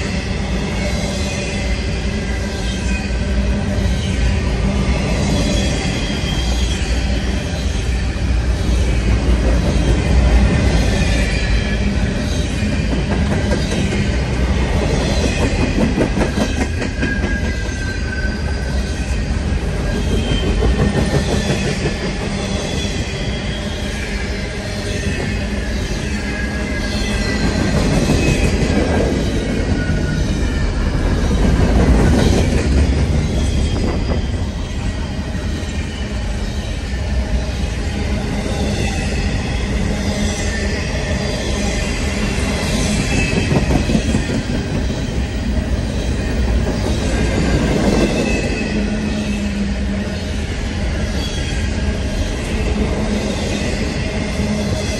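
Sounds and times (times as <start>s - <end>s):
train wheel squeal: 0.0s - 54.9s
train wheels rumbling on rails: 0.0s - 54.9s.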